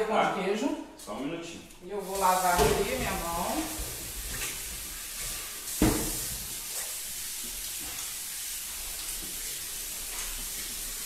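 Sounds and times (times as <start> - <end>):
tap water running into sink: 1.9 - 11.0.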